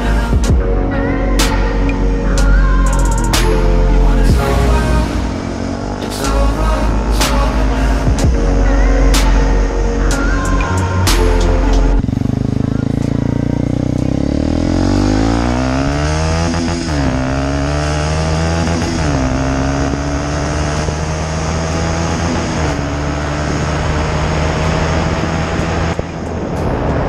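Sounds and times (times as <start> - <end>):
motorcycle accelerating and shifting gears: 0.0 - 27.0.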